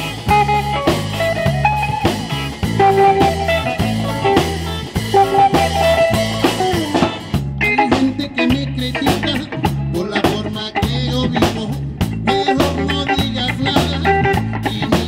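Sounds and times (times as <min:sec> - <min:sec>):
drum kit with cymbals: 0:00.0 - 0:15.0
electric bass riff: 0:00.0 - 0:15.0
electric guitar lines: 0:00.0 - 0:15.0.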